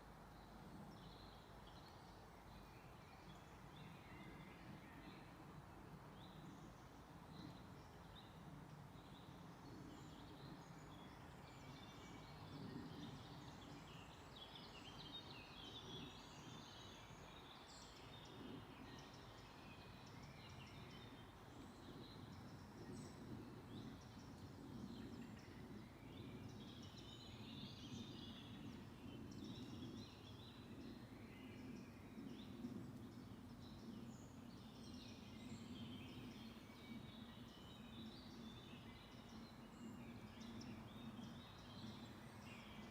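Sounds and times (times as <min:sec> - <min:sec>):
birds chirping and twittering: 0:00.3 - 0:42.9.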